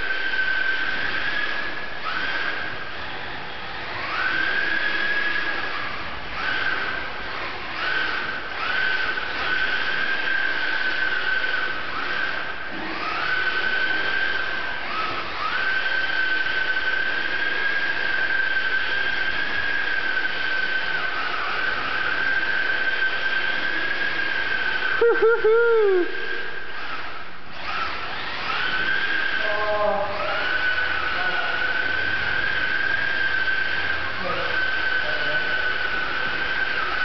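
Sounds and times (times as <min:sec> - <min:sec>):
toy car electric motor whining: 0:00.0 - 0:37.0.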